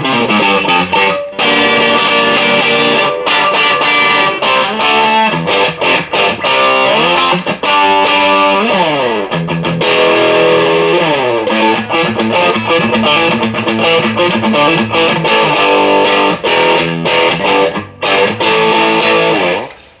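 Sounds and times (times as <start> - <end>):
overdriven electric guitar: 0.0 - 20.0.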